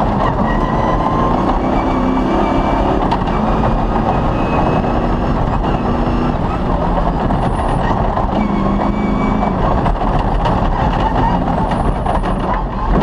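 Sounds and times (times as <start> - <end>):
car rattling and knocking: 0.0 - 13.0
rally car engine running: 0.0 - 13.0.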